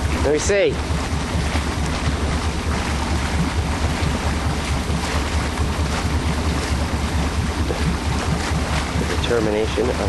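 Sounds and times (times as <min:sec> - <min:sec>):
outboard motor running: 0:00.0 - 0:10.0
water noise: 0:00.0 - 0:10.0
wind buffeting microphone: 0:00.0 - 0:10.0.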